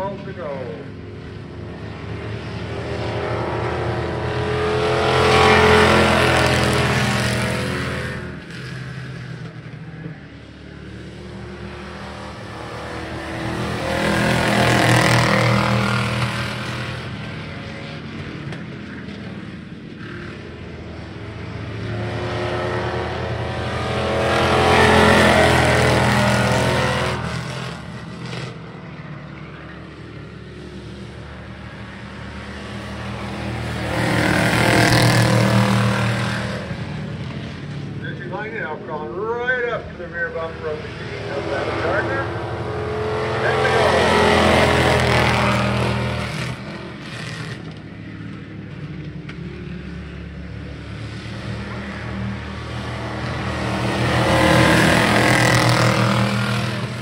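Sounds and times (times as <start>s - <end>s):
pickup truck engines racing: 0.0s - 57.0s.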